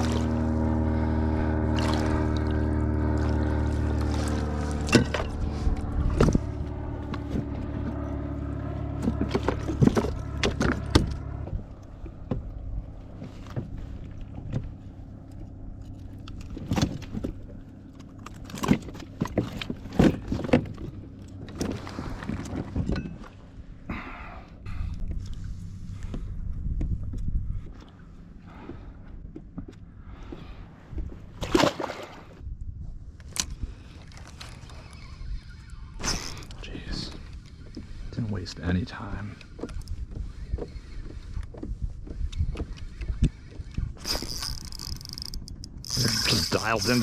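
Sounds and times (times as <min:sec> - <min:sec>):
electric trolling motor humming: 0:00.0 - 0:31.4, 0:33.7 - 0:47.0.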